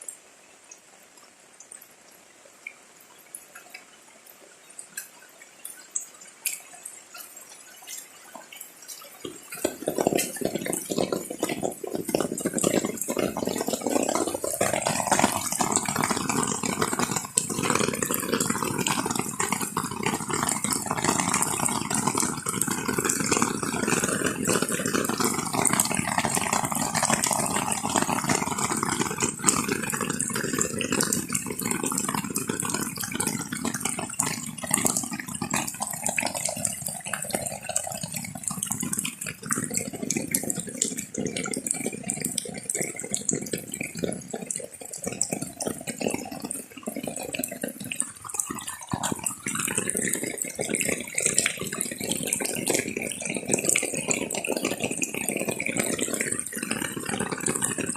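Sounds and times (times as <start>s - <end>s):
running splashing water: 4.8s - 57.9s.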